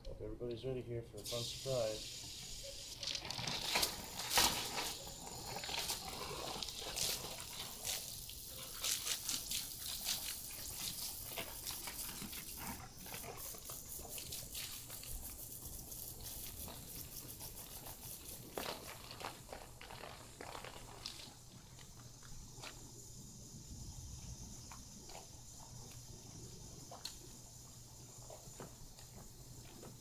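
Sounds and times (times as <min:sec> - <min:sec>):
foam sputtering from a hose: 0:01.2 - 0:30.0.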